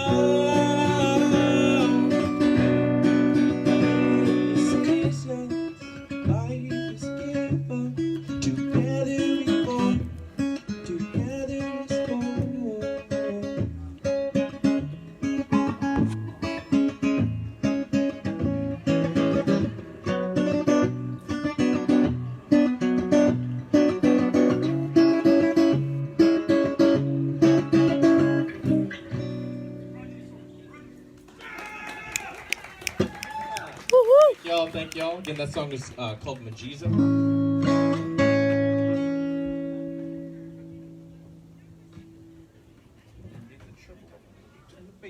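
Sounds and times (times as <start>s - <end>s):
guitar strumming chords: 0.0s - 31.3s, 36.9s - 42.8s.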